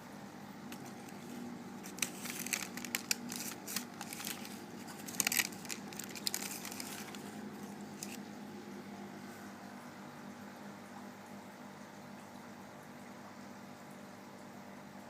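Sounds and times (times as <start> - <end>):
aquarium hum: 0.0 - 15.0.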